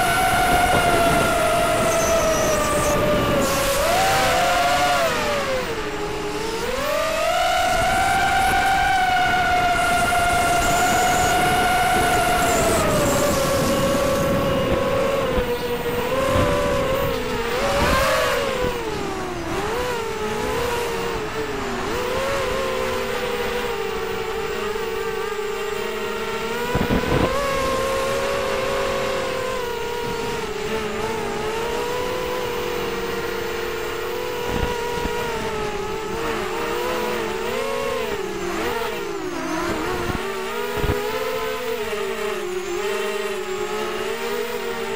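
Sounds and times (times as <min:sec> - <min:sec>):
wind rushing over microphone: 0:00.0 - 0:42.4
quadcopter motors whining: 0:00.0 - 0:44.9.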